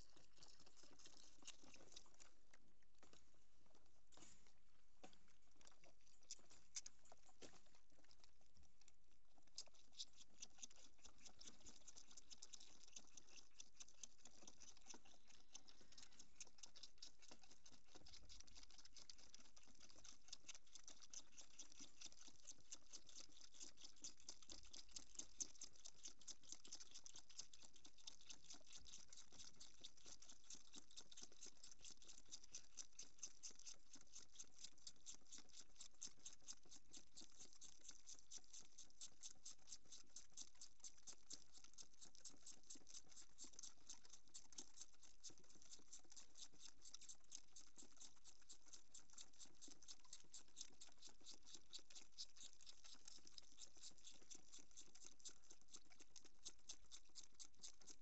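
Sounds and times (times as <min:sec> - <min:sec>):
goat kids sucking bottle teats: 0:00.0 - 0:58.0.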